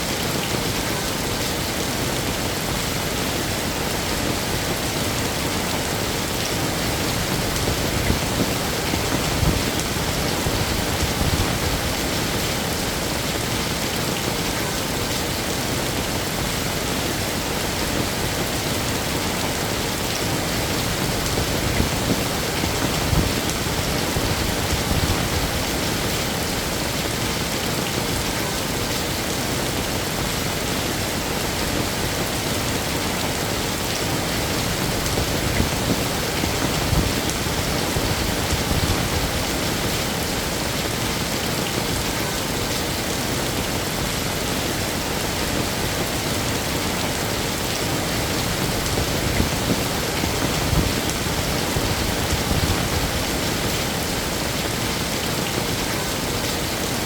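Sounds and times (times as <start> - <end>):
heavy rain on hard surfaces: 0.0 - 57.0
rain splashes: 0.0 - 57.0.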